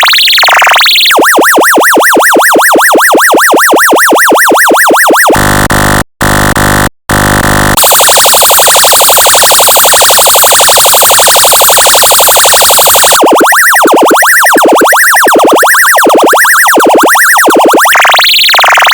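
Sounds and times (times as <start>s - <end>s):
electronic siren tones: 0.0s - 18.9s.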